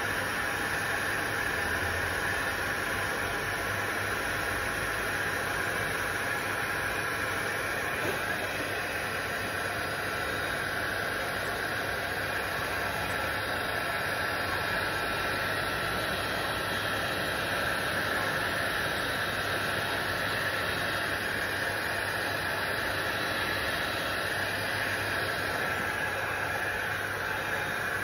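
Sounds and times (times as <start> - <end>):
heat gun fan hissing: 0.0 - 28.0
faint high whine: 2.6 - 28.0.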